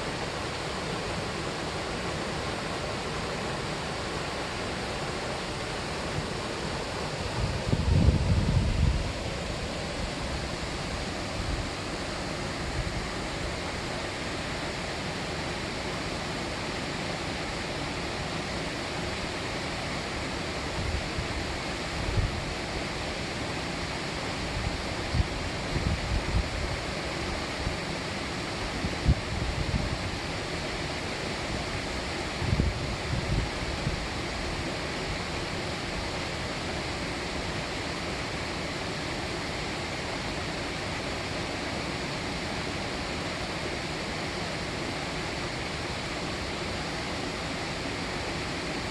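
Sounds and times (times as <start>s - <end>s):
mountain stream rushing: 0.0s - 48.9s.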